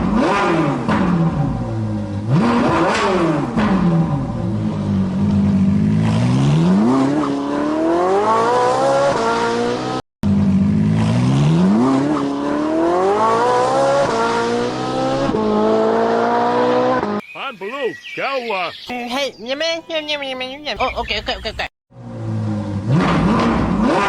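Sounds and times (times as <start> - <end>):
vehicle engine revving: 0.0 - 17.2, 21.9 - 24.0.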